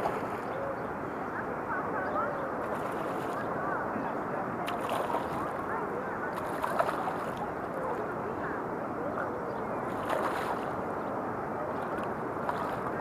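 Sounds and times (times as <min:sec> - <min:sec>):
river water flowing: 0:00.0 - 0:13.0
wind: 0:00.0 - 0:13.0.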